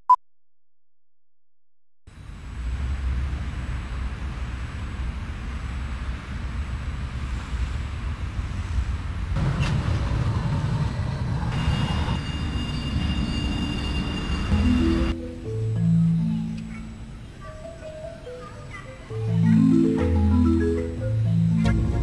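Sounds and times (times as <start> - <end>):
street traffic: 2.1 - 20.1
steady high whine: 2.1 - 22.0
tram rumble: 2.1 - 22.0.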